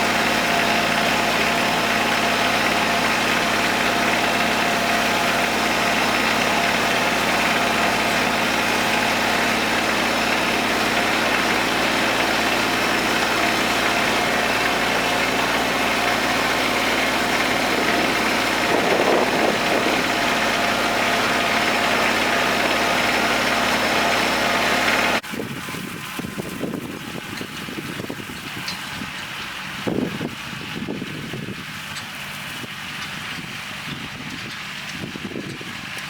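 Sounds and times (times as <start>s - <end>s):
tractor diesel engine running: 0.0s - 36.0s
wind: 0.0s - 36.0s.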